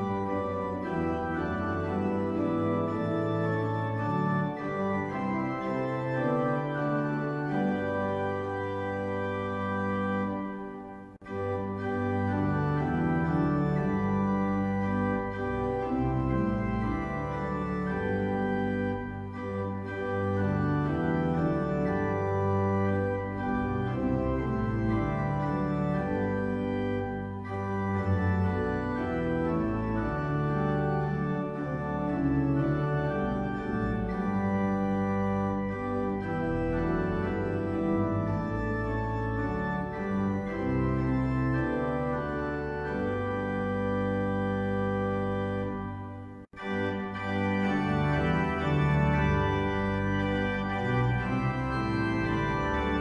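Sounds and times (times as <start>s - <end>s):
organ chords with bass line: 0.0s - 53.0s.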